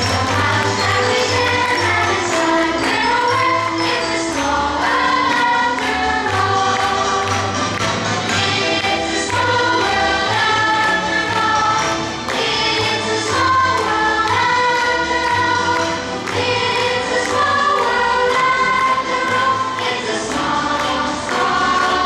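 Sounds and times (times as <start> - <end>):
choir-like voices holding notes: 0.0 - 22.0.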